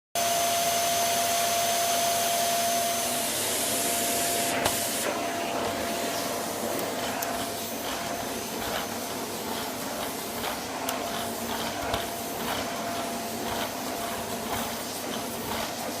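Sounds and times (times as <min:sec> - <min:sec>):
vacuum cleaner running: 0:00.2 - 0:16.0.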